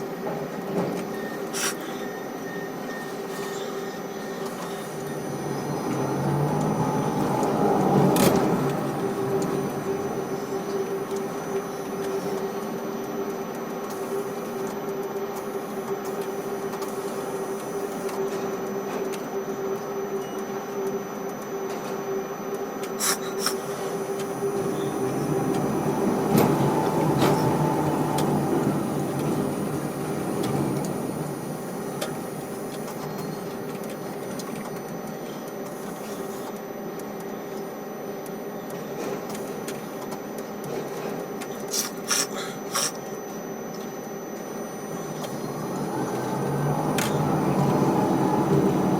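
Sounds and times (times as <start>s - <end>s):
crane machinery humming: 0.0s - 48.9s.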